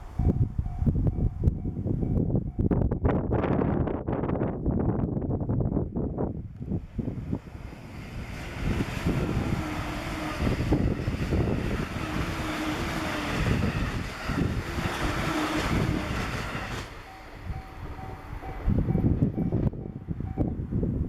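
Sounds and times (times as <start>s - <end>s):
train rumbling past: 0.0s - 21.0s
wind gusting on microphone: 0.0s - 21.0s.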